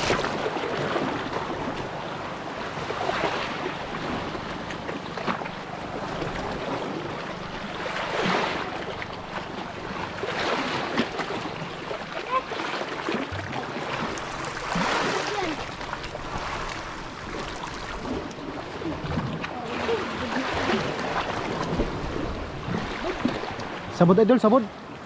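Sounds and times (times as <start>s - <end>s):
waves splashing against rocks: 0.0s - 24.5s.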